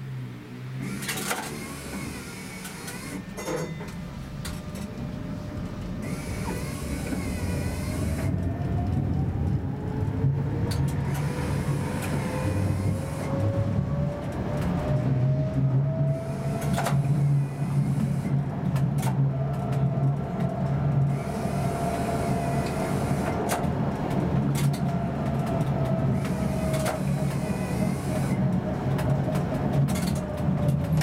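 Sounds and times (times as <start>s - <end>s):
tram running on rails: 0.0s - 31.0s
faint motor whine: 0.5s - 18.5s, 19.3s - 31.0s.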